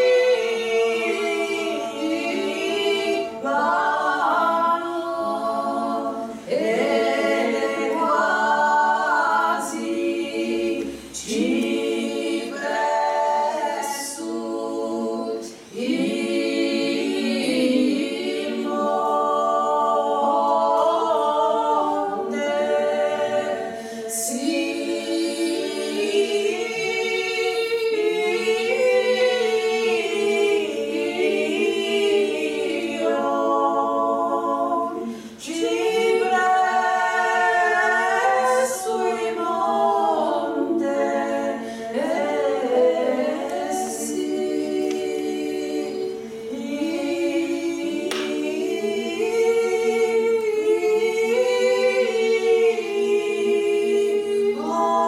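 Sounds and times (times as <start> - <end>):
women's choir singing a cappella: 0.0 - 55.0.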